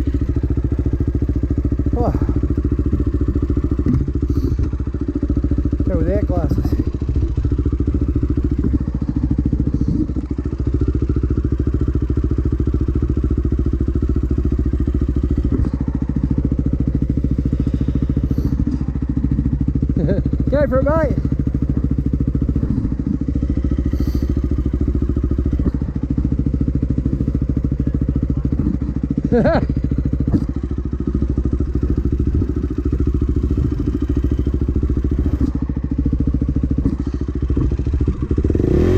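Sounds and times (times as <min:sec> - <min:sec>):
dirt bike engine idling: 0:00.0 - 0:38.9.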